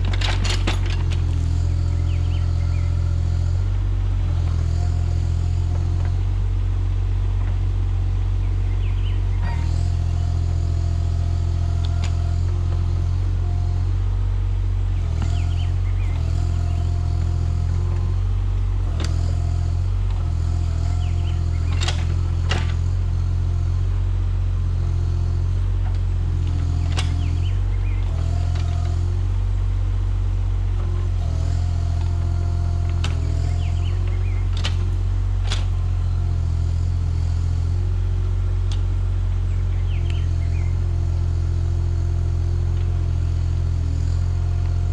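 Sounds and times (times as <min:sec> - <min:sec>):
excavator diesel engine running: 0:00.0 - 0:44.9
hydraulic whine: 0:00.0 - 0:44.9.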